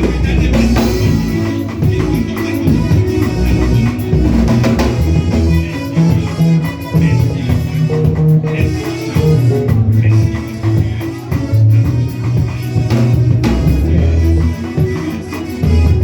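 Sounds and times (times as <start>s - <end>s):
bass guitar: 0.0s - 16.0s
drum kit: 0.0s - 16.0s
guitar: 0.0s - 16.0s.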